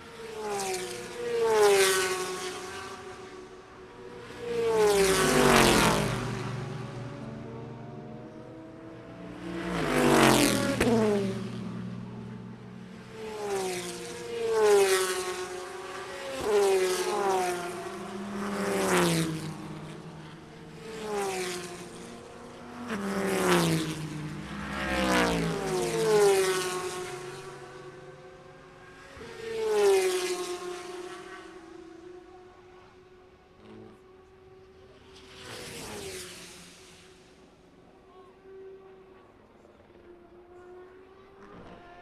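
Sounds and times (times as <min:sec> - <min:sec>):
racing cars passing at speed: 0:00.0 - 0:42.0.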